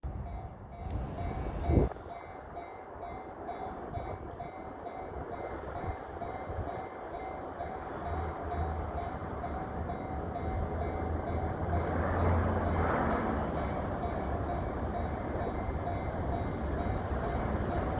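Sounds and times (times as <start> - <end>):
train wheels rumbling on rail: 0.0 - 17.9
crossing warning bell dinging: 0.1 - 17.9.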